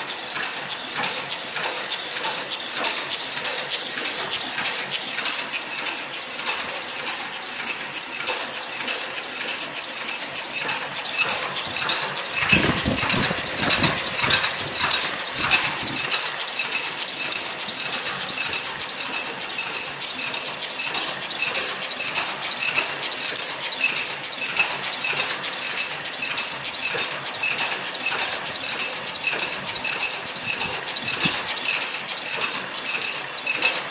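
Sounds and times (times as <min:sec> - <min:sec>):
paper cup machine clattering: 0:00.0 - 0:33.9.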